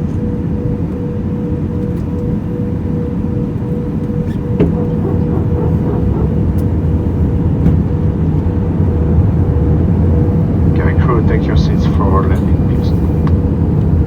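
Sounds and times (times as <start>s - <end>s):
aircraft rumble: 0.0s - 14.0s
mid-pitched hum: 0.1s - 14.0s.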